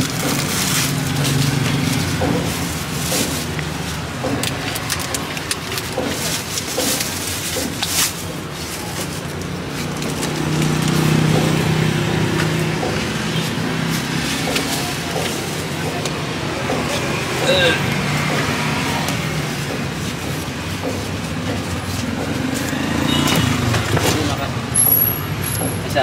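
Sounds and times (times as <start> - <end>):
street traffic hum: 0.0 - 26.0.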